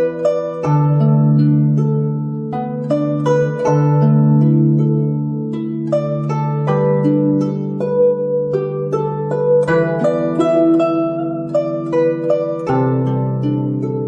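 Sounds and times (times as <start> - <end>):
plucked zither melody: 0.0 - 14.0.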